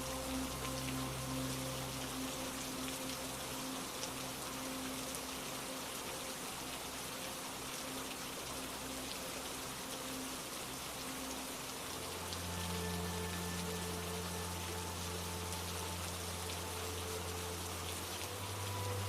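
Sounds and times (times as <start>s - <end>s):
steady rain patter: 0.0s - 19.0s.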